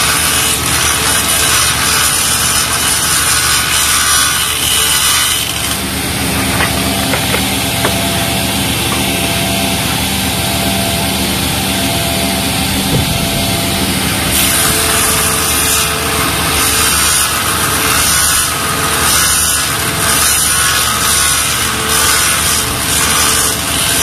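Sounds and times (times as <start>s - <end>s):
saw blade cutting: 0.0s - 24.0s
table saw motor hum: 0.0s - 24.0s.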